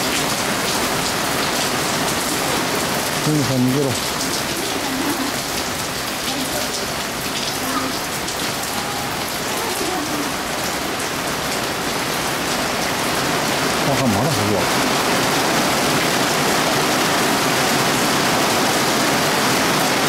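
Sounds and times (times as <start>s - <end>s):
thunderstorm rain downpour: 0.0s - 20.0s.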